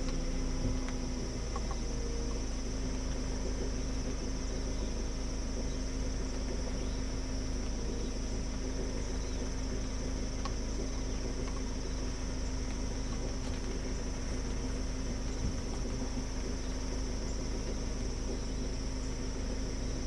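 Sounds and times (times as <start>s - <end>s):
insects chirping: 0.0s - 20.0s
low steady hum: 0.0s - 20.0s.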